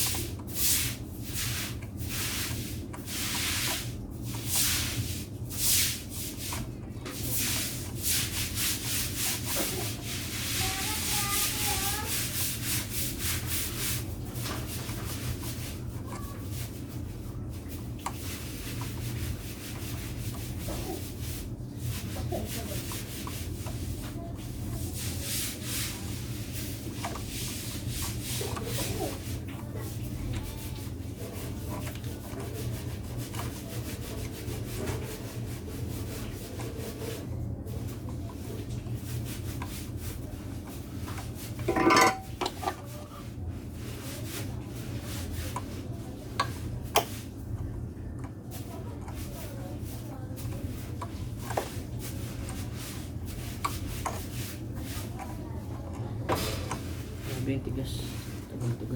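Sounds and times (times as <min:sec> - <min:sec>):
rubbing and scraping: 0:00.0 - 0:58.9.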